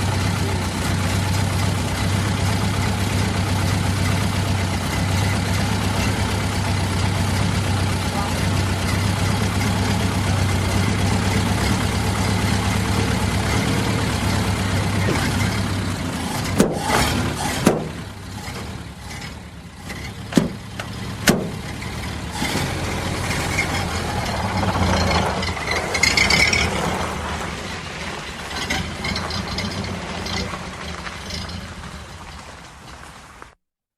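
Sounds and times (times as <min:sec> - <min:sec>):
old car engine running: 0:00.0 - 0:33.5.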